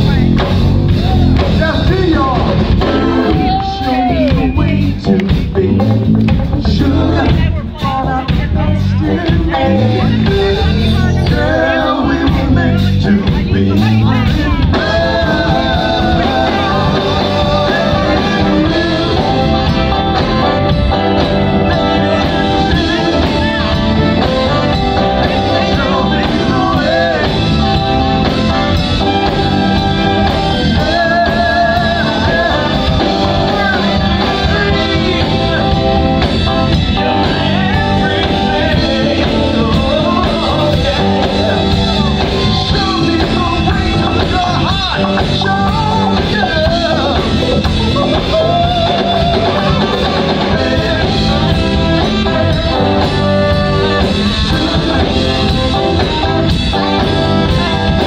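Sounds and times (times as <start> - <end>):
drum kit: 0.0 - 58.0
electric bass guitar: 0.0 - 58.0
men singing: 0.0 - 58.0.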